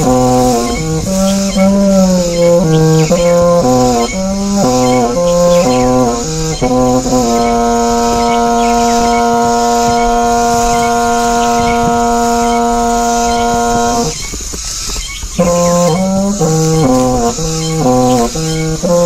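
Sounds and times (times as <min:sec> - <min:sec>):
brass instrument notes: 0:00.0 - 0:19.0.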